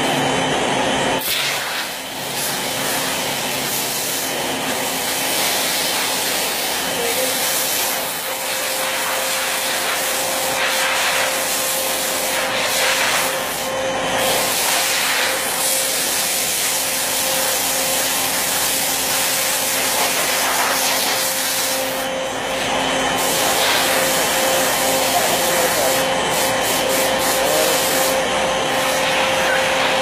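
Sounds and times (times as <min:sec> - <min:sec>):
router cutter hissing: 0:01.2 - 0:30.0.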